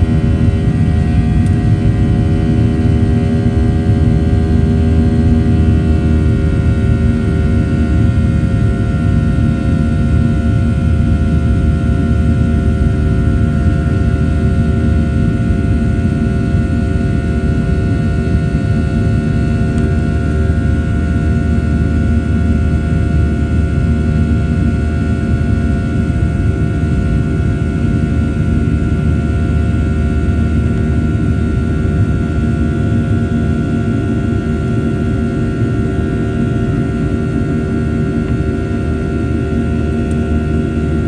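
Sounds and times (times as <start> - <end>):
jet engine rumble in cabin: 0.0 - 41.0.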